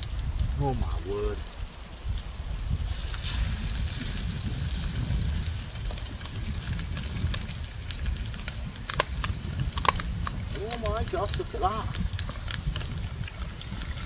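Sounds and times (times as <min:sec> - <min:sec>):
stove crackling hiss: 0:00.0 - 0:14.0.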